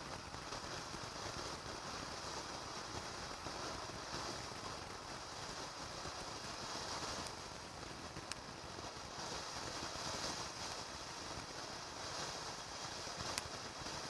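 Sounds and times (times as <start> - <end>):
firework fountain hissing: 0.0 - 14.0.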